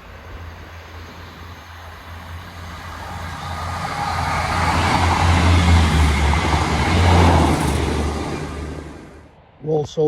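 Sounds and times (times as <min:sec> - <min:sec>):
train rumble and rail noise: 0:00.0 - 0:10.0.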